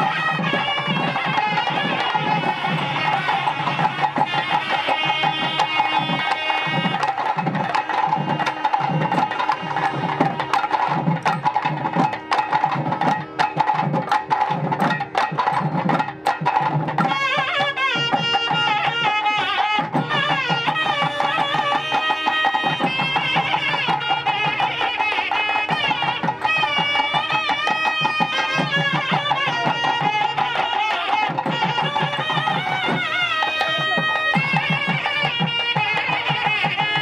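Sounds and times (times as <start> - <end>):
reed pipes playing a melody: 0.0 - 11.7, 17.0 - 37.0.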